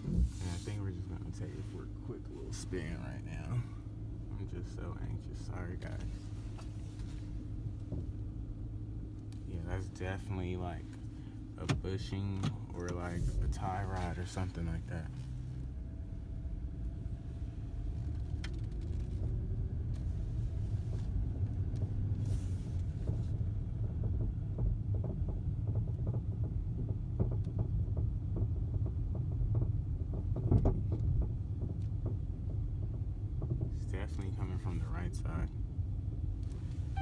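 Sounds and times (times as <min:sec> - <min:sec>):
road and engine rumble: 0:00.0 - 0:37.0
suspension knocking: 0:01.0 - 0:22.2, 0:22.8 - 0:37.0.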